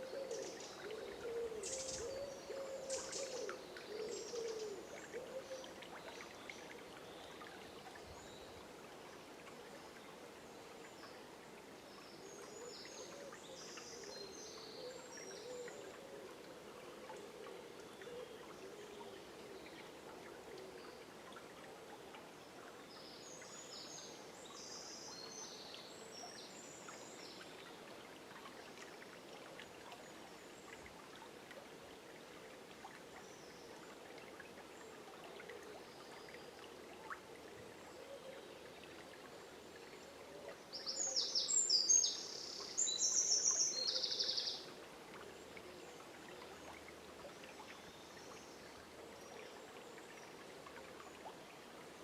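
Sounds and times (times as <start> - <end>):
river water flowing: 0.0 - 52.0.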